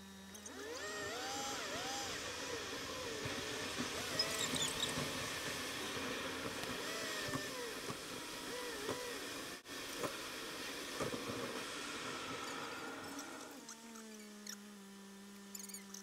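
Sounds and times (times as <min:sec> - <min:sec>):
road and engine noise in car: 0:01.4 - 0:15.2.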